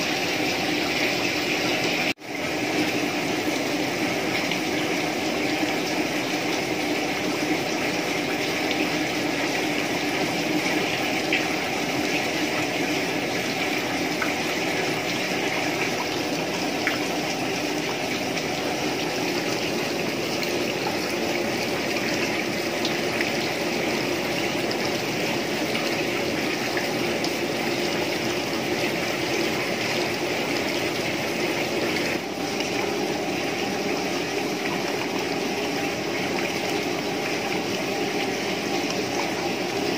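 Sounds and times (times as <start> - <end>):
liquid stream splashing into basin: 0.0 - 39.9.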